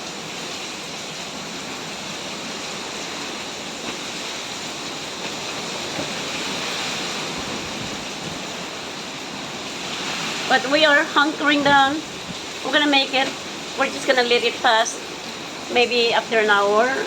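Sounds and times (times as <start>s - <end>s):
strong wind driving heavy rain: 0.0s - 17.0s
wind rumble on microphone: 1.4s - 17.0s.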